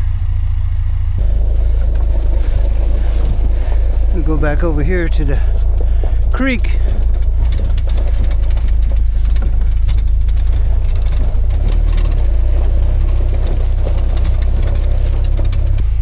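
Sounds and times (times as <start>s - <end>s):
pickup truck engine rumbling: 0.0s - 16.0s
sharp clicks and rattles: 0.1s - 16.0s.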